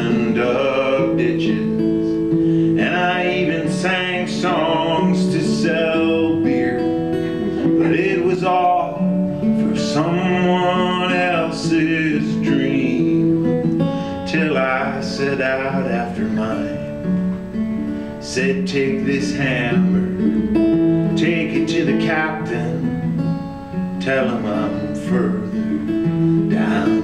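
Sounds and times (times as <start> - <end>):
man singing: 0.0 - 17.0, 18.2 - 20.2, 21.1 - 23.1, 24.0 - 25.9, 26.5 - 27.0
acoustic guitar strumming: 0.0 - 27.0.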